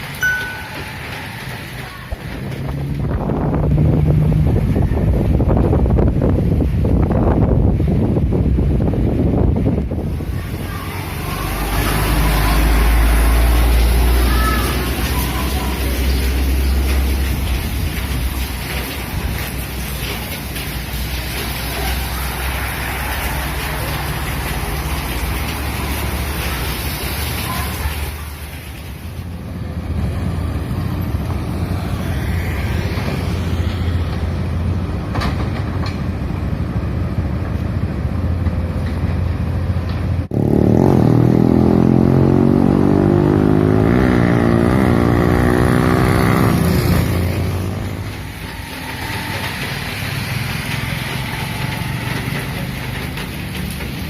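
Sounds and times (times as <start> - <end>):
rain: 0.0 - 54.0
wind: 0.0 - 54.0.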